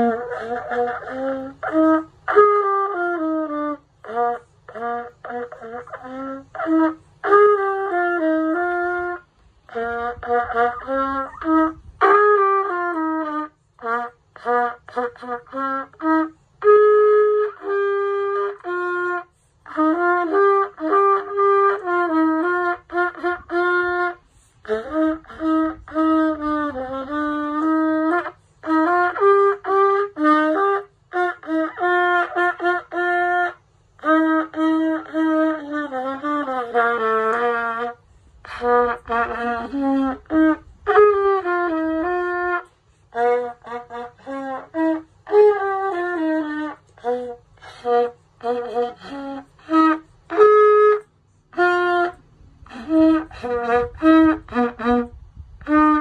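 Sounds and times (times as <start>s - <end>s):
child playing solo trumpet: 0.0s - 56.0s.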